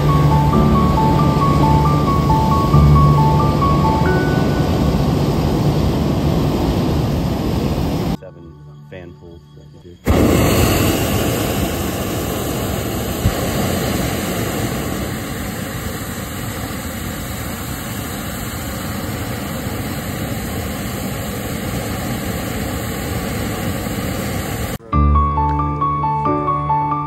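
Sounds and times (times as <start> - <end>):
propane burner blast: 0.0 - 8.2, 10.0 - 24.8.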